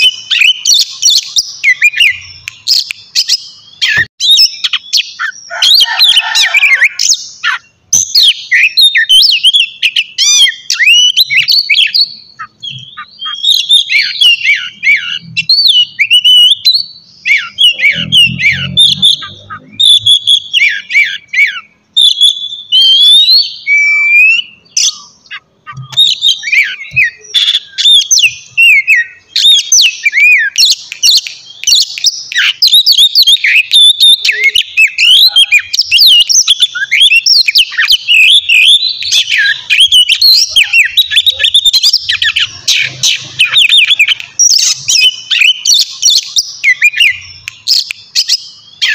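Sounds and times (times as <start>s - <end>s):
bird singing varied song: 0.0s - 48.9s.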